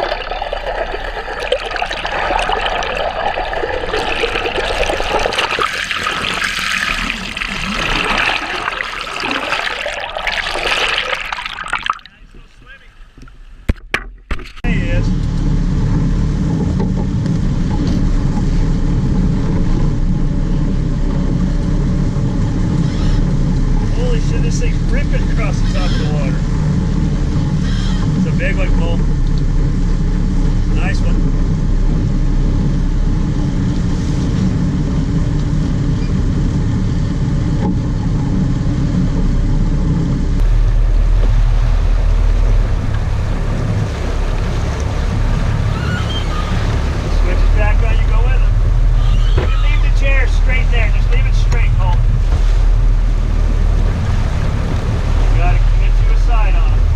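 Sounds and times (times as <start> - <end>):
water rushing: 0.0 - 12.8, 15.7 - 56.9
boat engine droning: 0.0 - 13.6, 14.7 - 56.9.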